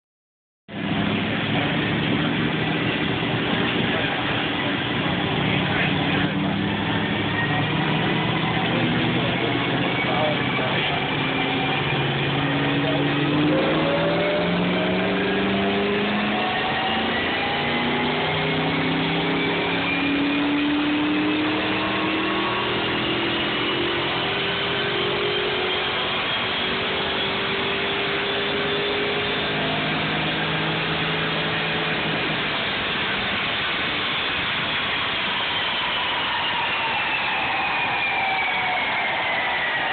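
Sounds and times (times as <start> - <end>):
car engine revving on dyno: 0.7 - 39.9
dyno rollers spinning down: 0.7 - 39.9.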